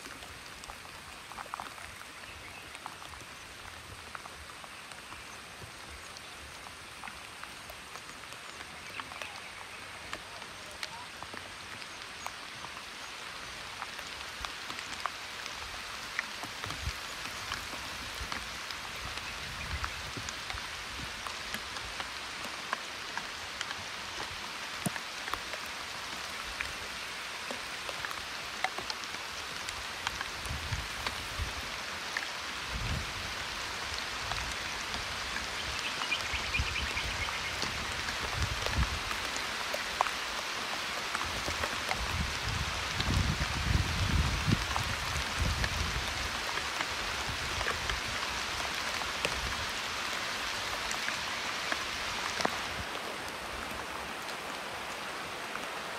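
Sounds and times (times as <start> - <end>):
rain falling on foliage: 0.0 - 55.9.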